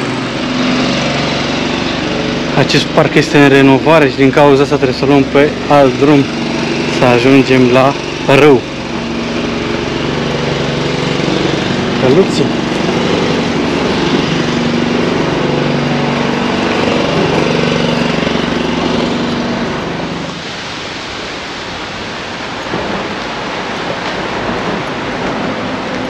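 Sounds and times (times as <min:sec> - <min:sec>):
engine humming: 0:00.0 - 0:26.0
steady rushing noise: 0:00.0 - 0:26.0.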